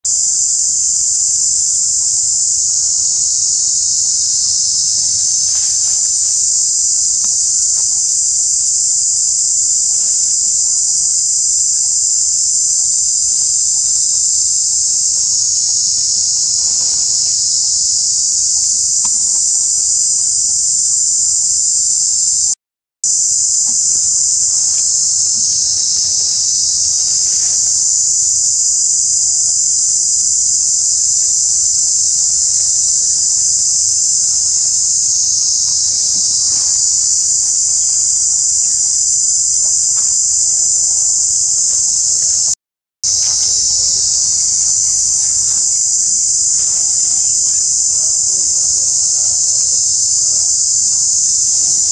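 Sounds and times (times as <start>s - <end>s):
insect chorus drone: 0.0s - 51.9s.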